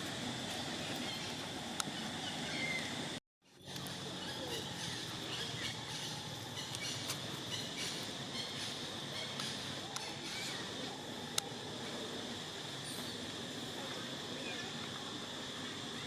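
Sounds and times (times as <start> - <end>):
steady high hum: 0.0 - 16.0.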